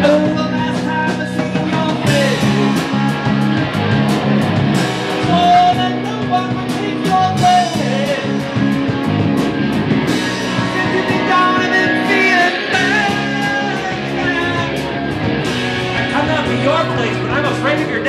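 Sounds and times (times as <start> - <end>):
bass: 0.0 - 18.0
drum kit: 0.0 - 18.0
electric guitars: 0.0 - 18.0.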